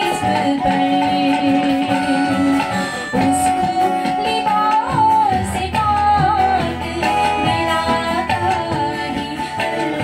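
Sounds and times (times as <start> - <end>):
acoustic guitar: 0.0 - 10.0
keyboard: 0.0 - 10.0
woman singing into microphone: 0.0 - 10.0.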